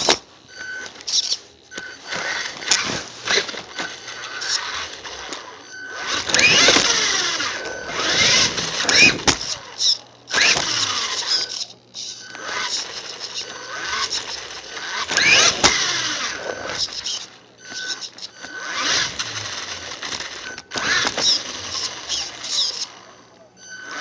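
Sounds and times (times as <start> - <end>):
electric motor whining: 0.0 - 24.0
tyre and drivetrain noise: 0.0 - 24.0.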